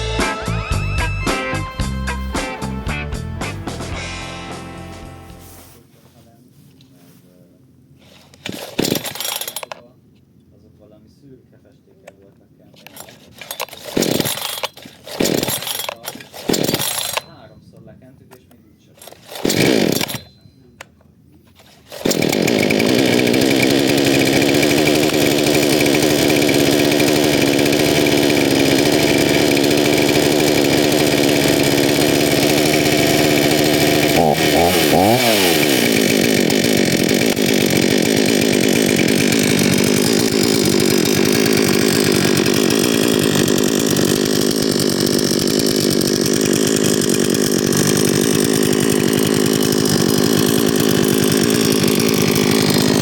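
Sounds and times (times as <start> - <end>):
chainsaw running: 0.0 - 5.6, 8.0 - 9.9, 12.0 - 53.0.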